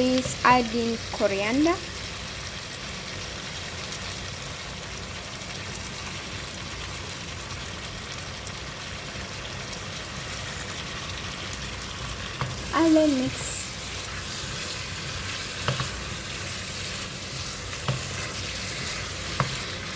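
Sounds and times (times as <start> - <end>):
food sizzling in a frying pan: 0.0 - 19.9.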